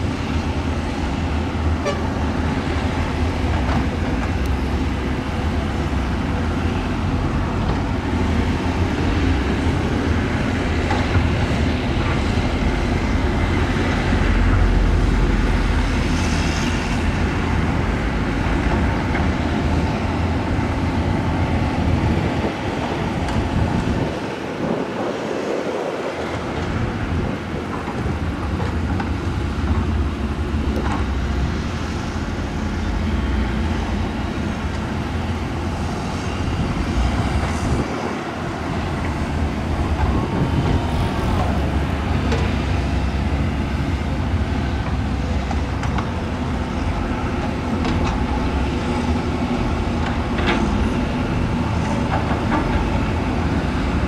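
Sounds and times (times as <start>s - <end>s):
heavy diesel machinery droning: 0.0s - 54.0s.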